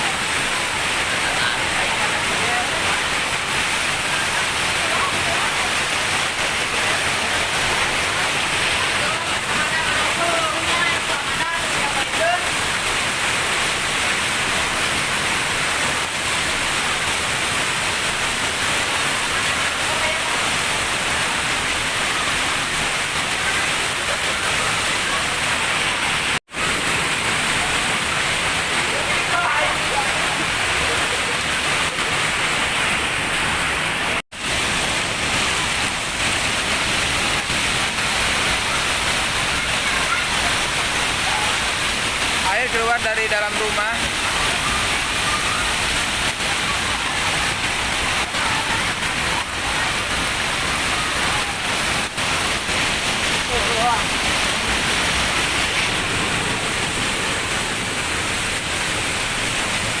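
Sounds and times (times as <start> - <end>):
floodwater rushing: 0.0 - 60.0.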